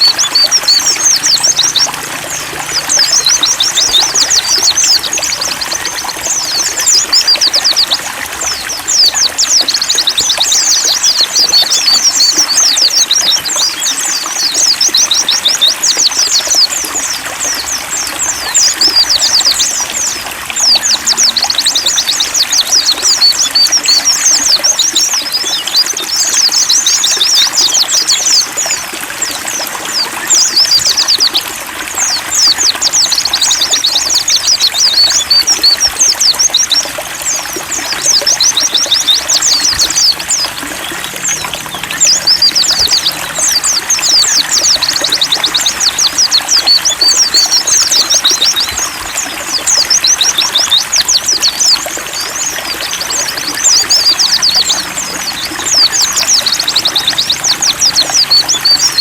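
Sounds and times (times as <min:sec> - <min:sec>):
birds twittering: 0:00.0 - 0:59.0
trickle of running water: 0:00.0 - 0:59.0.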